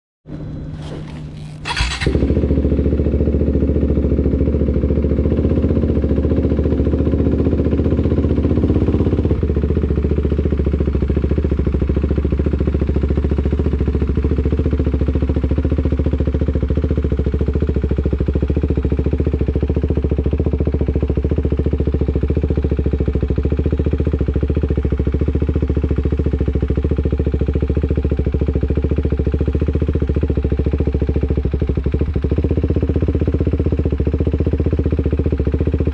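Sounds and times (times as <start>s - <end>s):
motorcycle engine idling: 0.4s - 35.9s.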